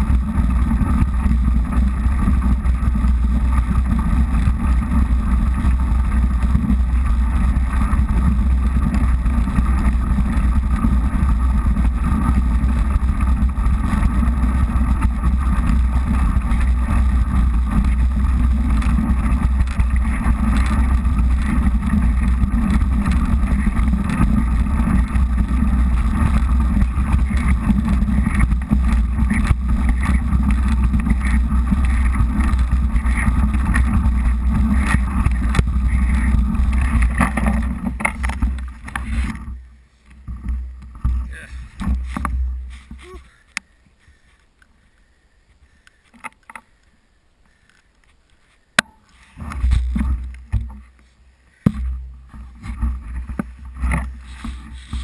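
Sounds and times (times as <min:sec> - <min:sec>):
bike rattling: 0:00.0 - 0:46.9, 0:47.5 - 0:55.0
bike tyres crunching on snow: 0:00.0 - 0:55.0.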